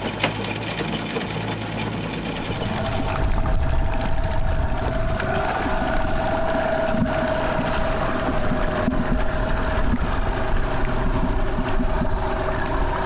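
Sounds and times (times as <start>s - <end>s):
boat engine humming: 2.0s - 13.0s
wind buffeting microphone: 2.4s - 13.0s.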